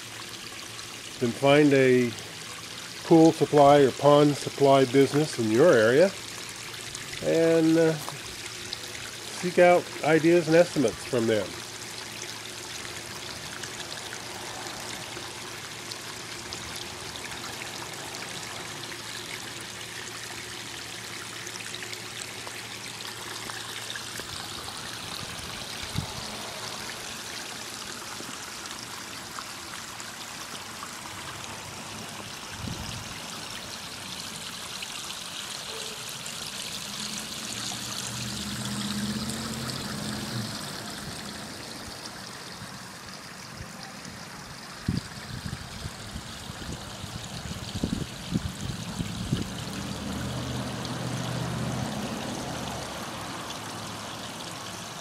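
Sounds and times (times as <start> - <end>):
water splashing over rocks: 0.0 - 55.0.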